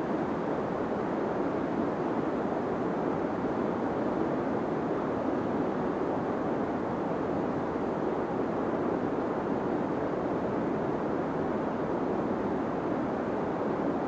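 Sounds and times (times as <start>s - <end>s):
muffled white noise hiss: 0.0s - 14.0s.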